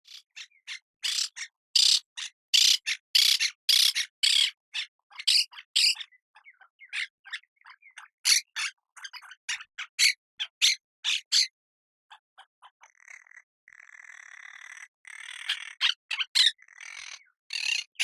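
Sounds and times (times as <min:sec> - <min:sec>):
parrot chirping softly: 0:00.0 - 0:18.0
parrot squawking: 0:00.1 - 0:11.5, 0:14.5 - 0:18.0.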